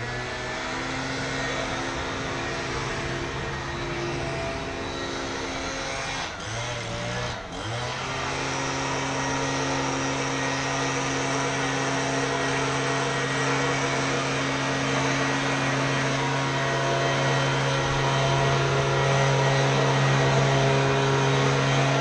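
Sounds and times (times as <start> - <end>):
small petrol engine running: 0.0 - 22.0.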